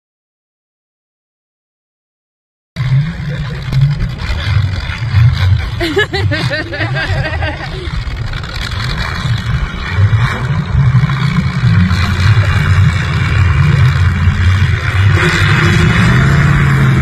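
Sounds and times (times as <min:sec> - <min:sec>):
stock car engines revving: 0:02.8 - 0:17.0.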